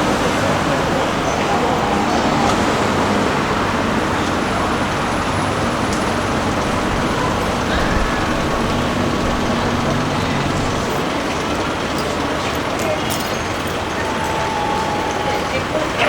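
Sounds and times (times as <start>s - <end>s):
passing road traffic: 0.0s - 16.0s.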